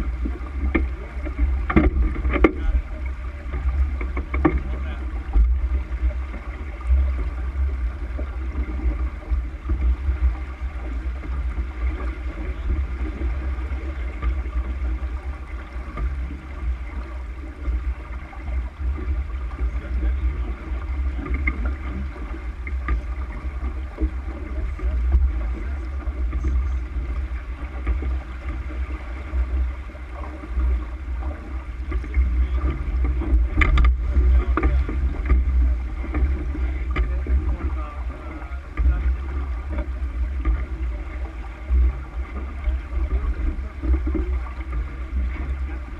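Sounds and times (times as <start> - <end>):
water rushing along a hull: 0.0 - 45.9
wind buffeting the microphone: 0.0 - 45.9.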